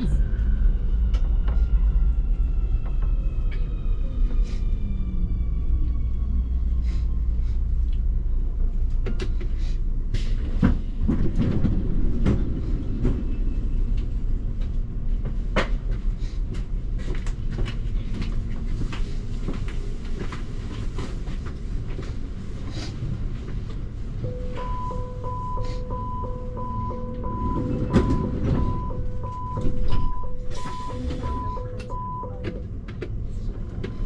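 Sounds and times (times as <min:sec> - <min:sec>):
low rumble: 0:00.0 - 0:19.9, 0:21.4 - 0:34.0
train low hum: 0:00.0 - 0:34.0.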